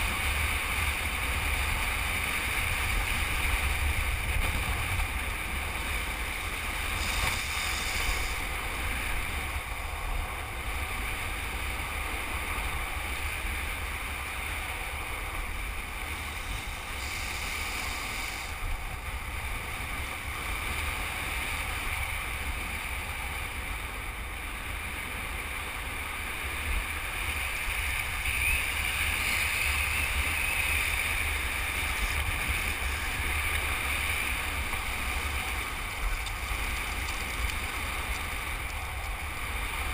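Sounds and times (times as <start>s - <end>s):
longboard wheels rolling on asphalt: 0.0s - 39.9s
wind buffeting microphone: 0.0s - 39.9s.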